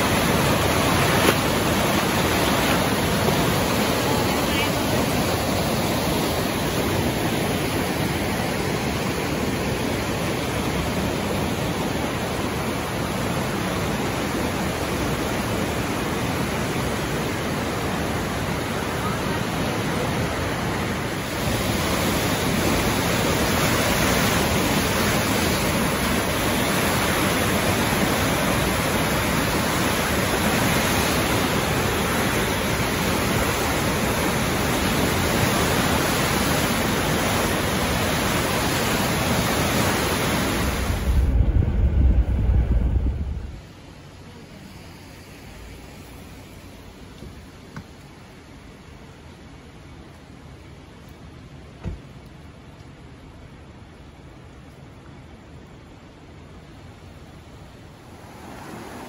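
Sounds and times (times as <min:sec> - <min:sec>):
creek rushing through rapids: 0:00.0 - 0:59.0.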